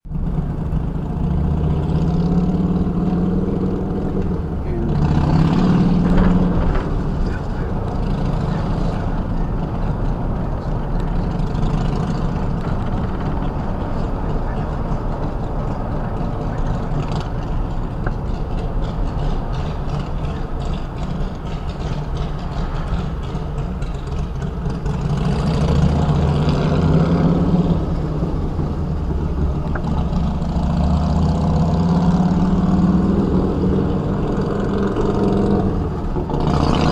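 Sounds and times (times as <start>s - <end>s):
truck engine droning: 0.0s - 36.9s.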